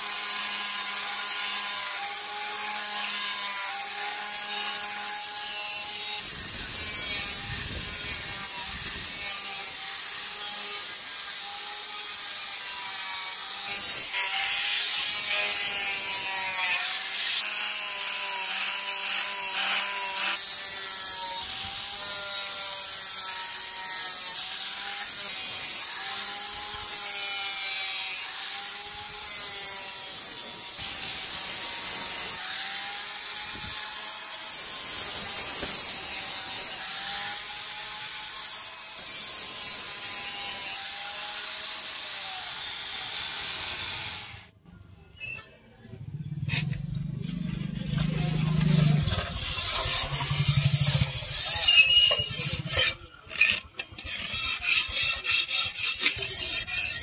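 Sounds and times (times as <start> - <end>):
angle grinder grinding metal: 0.0 - 44.6, 46.0 - 57.0.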